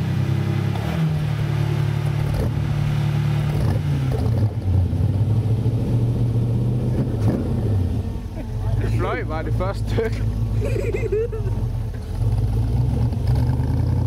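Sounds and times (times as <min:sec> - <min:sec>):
engine labouring under load: 0:00.0 - 0:14.0
water splashing around wheels: 0:00.0 - 0:14.0.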